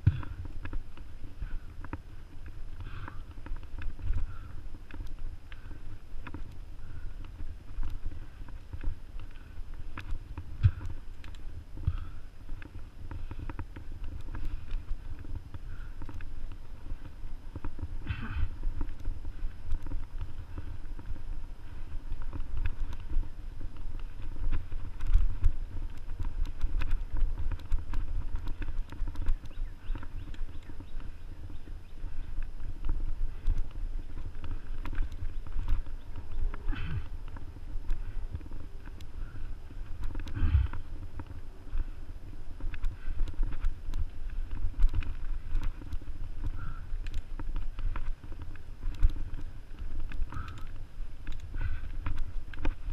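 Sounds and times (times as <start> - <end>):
wind rumble: 0.0 - 52.9.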